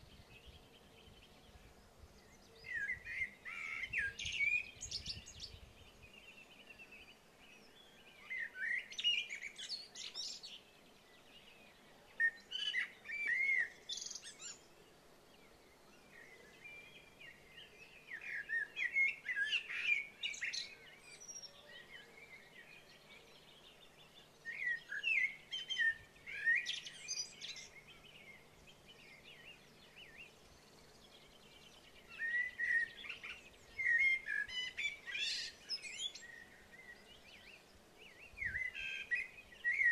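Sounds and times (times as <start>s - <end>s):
faint steady background hiss: 0.0s - 39.9s
songbird singing: 0.0s - 39.9s.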